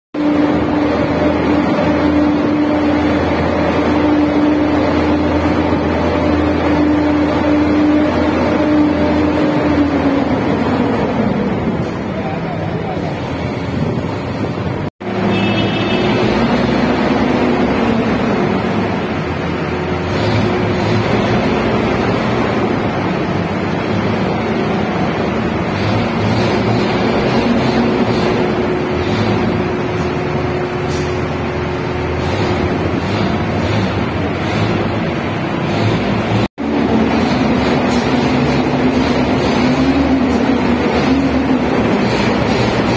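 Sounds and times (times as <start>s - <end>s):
construction machinery droning: 0.2s - 42.9s.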